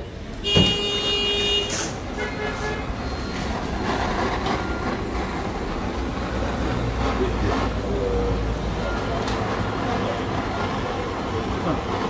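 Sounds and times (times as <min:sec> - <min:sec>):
kitchen torch flame rushing: 0:00.2 - 0:12.0.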